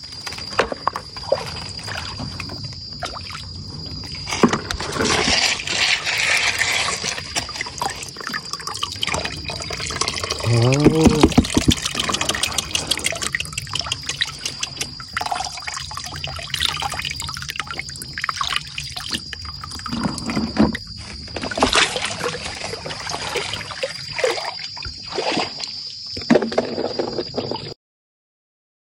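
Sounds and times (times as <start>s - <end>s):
water sloshing and splashing: 0.0s - 27.8s.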